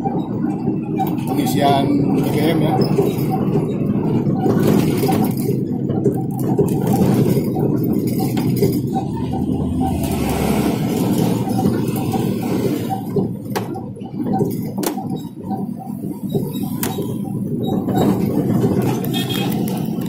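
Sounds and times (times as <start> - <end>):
car cabin road and engine rumble: 0.0 - 20.0
sharp clicks or rattles: 2.2 - 20.0.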